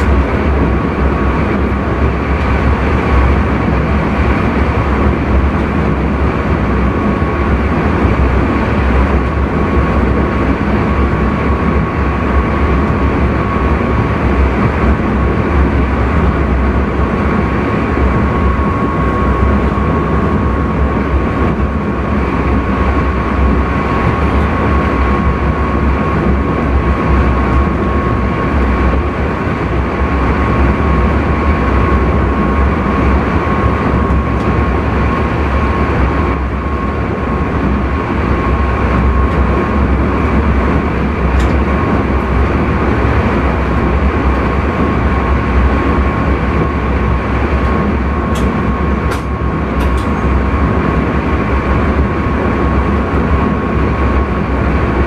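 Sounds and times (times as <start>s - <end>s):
thin steady whine: 0.0s - 55.0s
train rumble: 0.0s - 55.0s.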